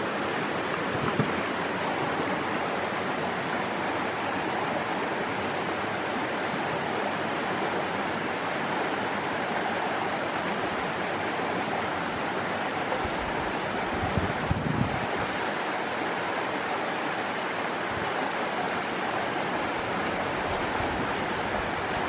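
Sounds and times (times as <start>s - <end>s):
creek water running over rocks: 0.0s - 22.0s.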